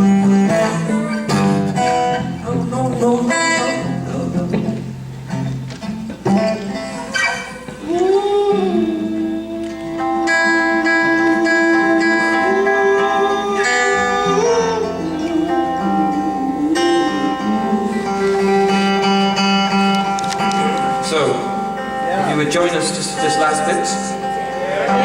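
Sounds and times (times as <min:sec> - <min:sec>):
person singing wordless notes: 0:00.0 - 0:05.1, 0:06.6 - 0:25.0
acoustic guitar: 0:00.0 - 0:25.0.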